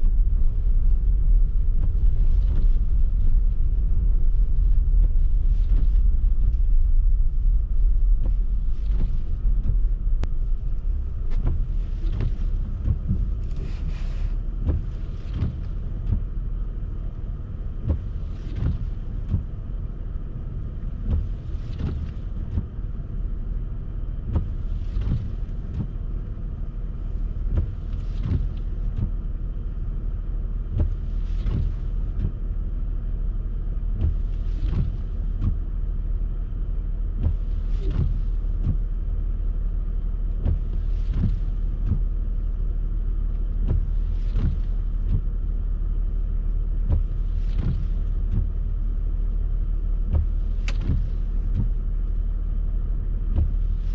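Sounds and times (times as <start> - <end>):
road and engine rumble: 0.0 - 53.9
windshield wipers swishing: 0.0 - 53.9.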